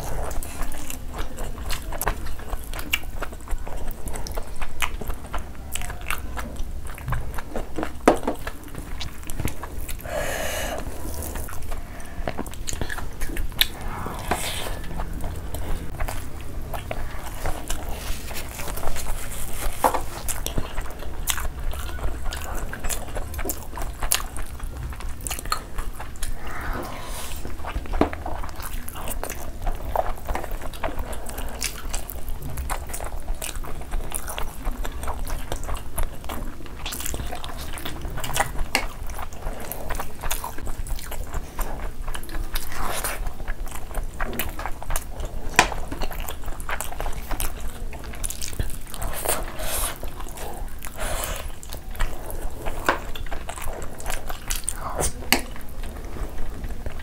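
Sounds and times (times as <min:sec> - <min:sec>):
people chewing food: 0:00.0 - 0:57.0.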